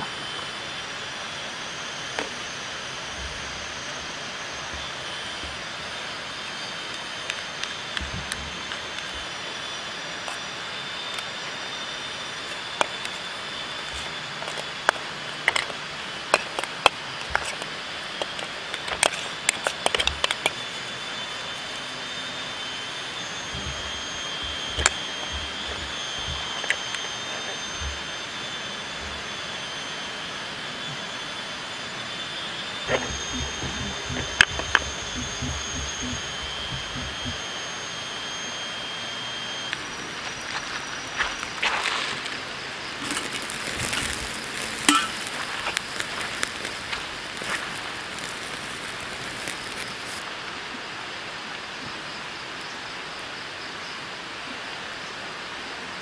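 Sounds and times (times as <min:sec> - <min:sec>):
forest insects humming: 0:00.0 - 0:56.0.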